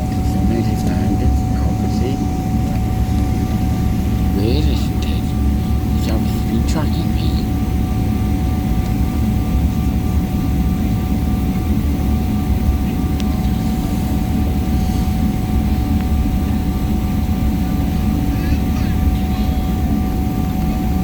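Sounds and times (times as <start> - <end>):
airliner cabin rumble: 0.0 - 21.0
constant thin whine: 0.0 - 21.0.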